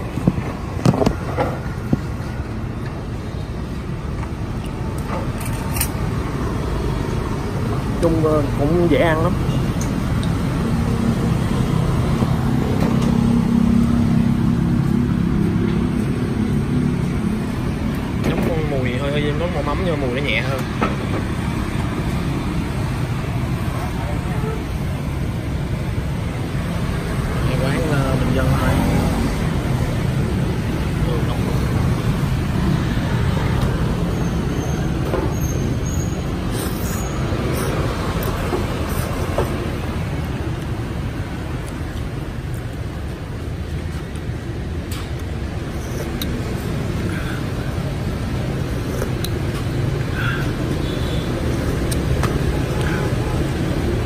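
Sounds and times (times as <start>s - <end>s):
motorbike engines passing: 0.0s - 54.0s
road noise: 0.0s - 54.0s.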